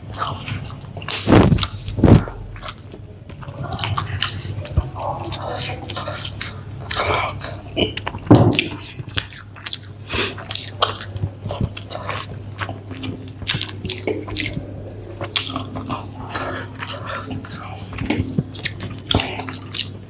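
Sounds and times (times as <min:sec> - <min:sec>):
chewing and biting food: 0:00.0 - 0:20.0.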